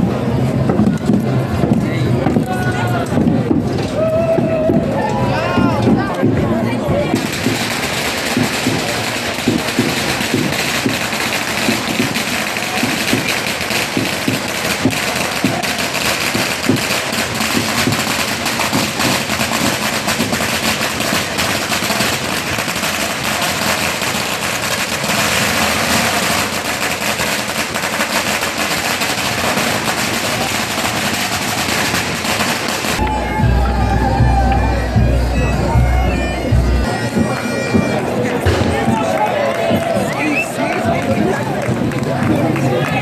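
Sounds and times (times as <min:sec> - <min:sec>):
firecrackers cracking rapidly: 0:00.0 - 0:43.0.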